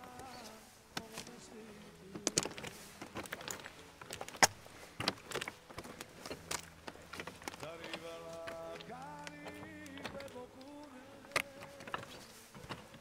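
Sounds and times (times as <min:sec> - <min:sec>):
boots stepping on scree: 0:00.0 - 0:13.0
stones clacking: 0:00.0 - 0:13.0.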